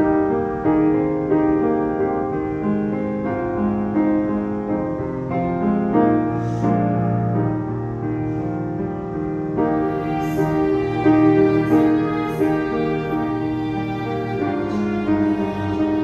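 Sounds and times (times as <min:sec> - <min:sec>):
piano background music: 0:00.0 - 0:16.0.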